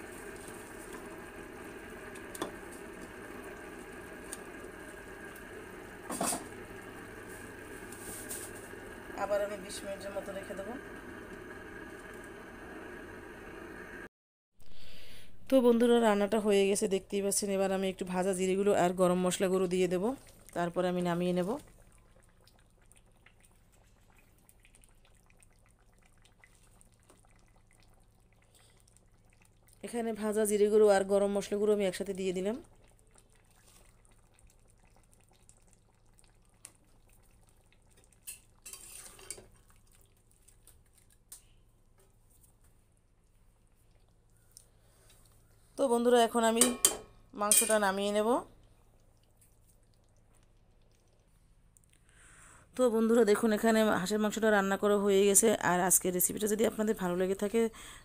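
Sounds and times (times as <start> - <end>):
curry bubbling in a pan: 0.0 - 14.1, 17.4 - 52.0.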